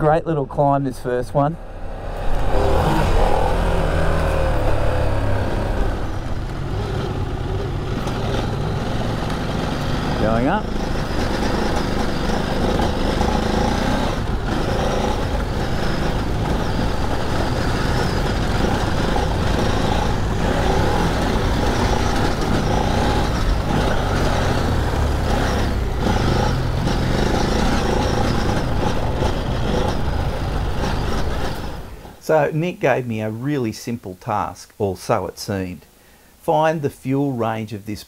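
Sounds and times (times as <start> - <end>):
wind: 0.0 - 38.0
motorcycle engine revving: 1.4 - 32.2.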